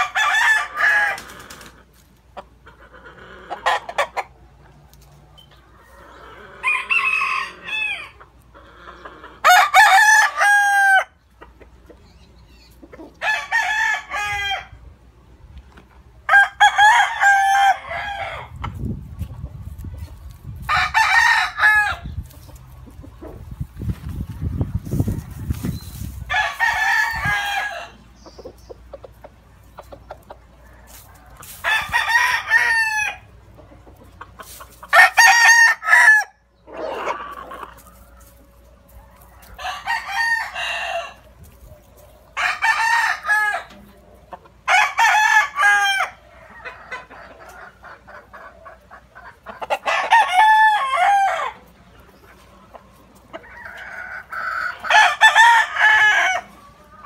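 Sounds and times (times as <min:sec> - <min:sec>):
roosters crowing: 0:00.0 - 0:02.0, 0:02.7 - 0:04.6, 0:05.6 - 0:11.2, 0:12.9 - 0:14.9, 0:16.2 - 0:19.1, 0:19.7 - 0:28.3, 0:30.4 - 0:33.6, 0:34.2 - 0:48.5, 0:49.4 - 0:51.8, 0:53.2 - 0:57.0.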